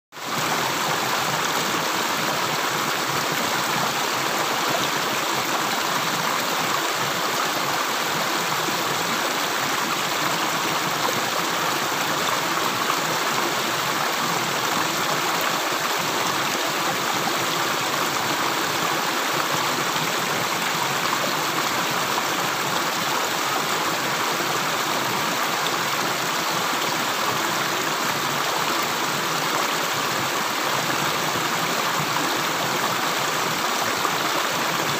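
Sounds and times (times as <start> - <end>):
water rushing: 0.2 - 34.9.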